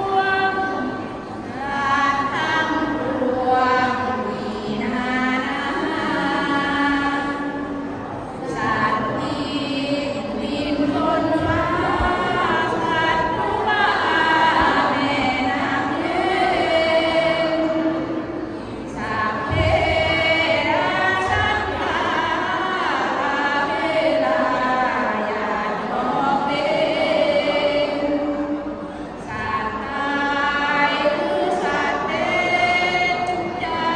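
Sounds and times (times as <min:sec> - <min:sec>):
women singing devotional chant: 0:00.0 - 0:33.9.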